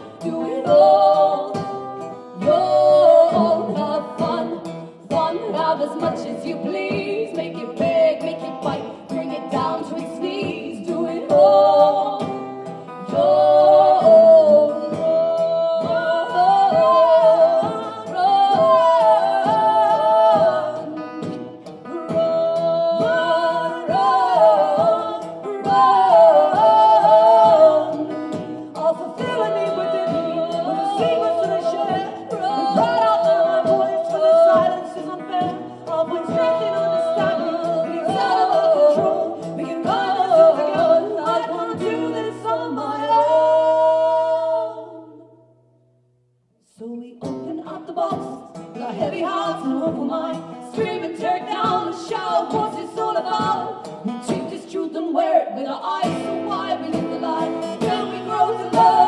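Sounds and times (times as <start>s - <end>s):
women singing in harmony: 0.0s - 45.4s, 46.7s - 59.0s
strummed acoustic guitars: 0.0s - 59.0s.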